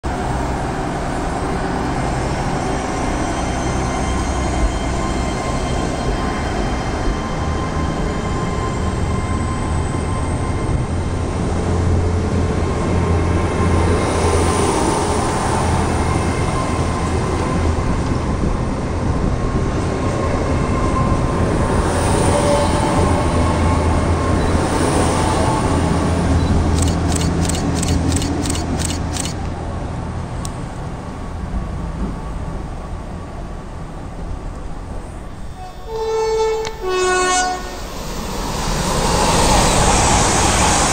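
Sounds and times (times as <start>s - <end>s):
train rumbling and rattling: 0.1s - 40.9s.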